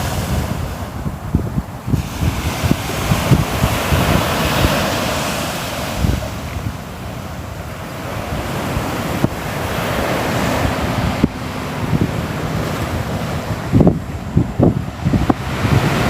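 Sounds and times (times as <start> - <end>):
sea waves breaking on shore: 0.0 - 16.0
wind buffeting microphone: 0.0 - 16.0.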